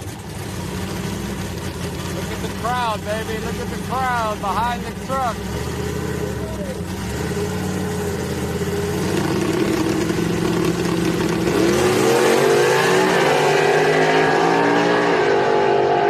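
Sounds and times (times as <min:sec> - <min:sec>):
pickup trucks accelerating hard: 0:00.0 - 0:16.0.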